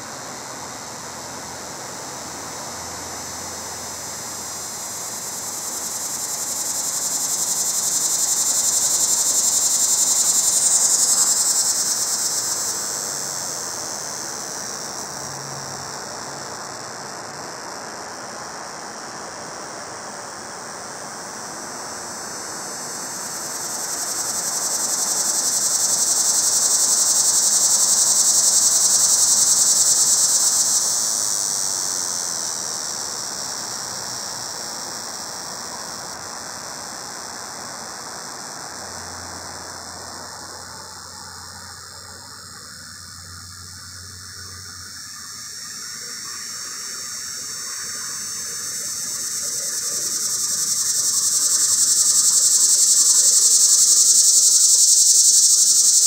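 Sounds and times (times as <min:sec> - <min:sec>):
cicada buzzing: 0:00.0 - 0:56.0.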